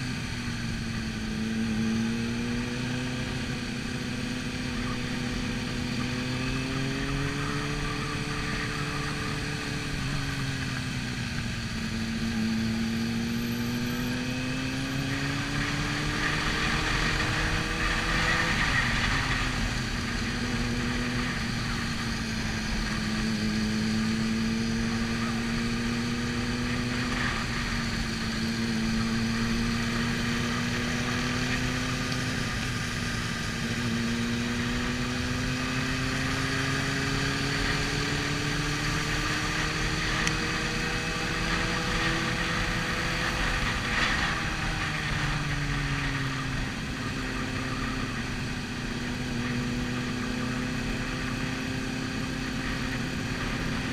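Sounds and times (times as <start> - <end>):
motorcycle engine cruising: 0.0 - 53.9
other motorcycles alongside: 0.0 - 53.9.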